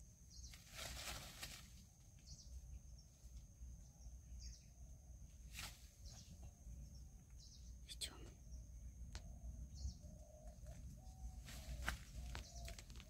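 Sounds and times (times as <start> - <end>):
faint bird chirps: 2.1 - 13.0.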